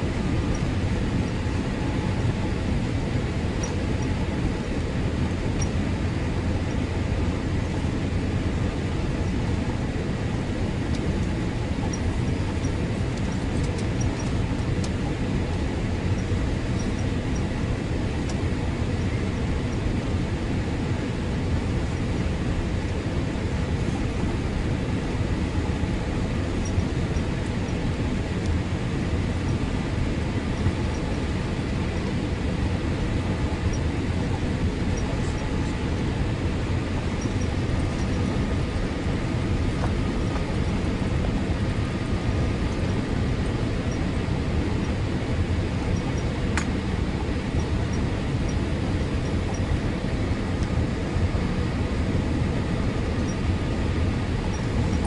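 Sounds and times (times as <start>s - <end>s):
airliner cabin roar: 0.0s - 55.0s
faint steady whines: 0.0s - 55.0s.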